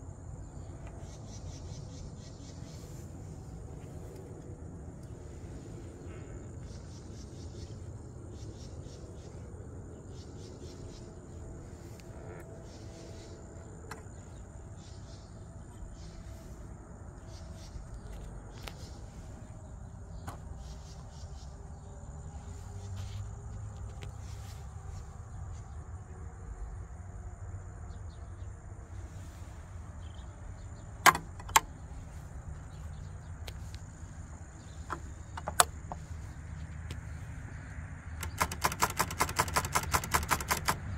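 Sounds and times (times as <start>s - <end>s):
constant low rumble: 0.0s - 40.9s
insects trilling: 0.0s - 40.9s.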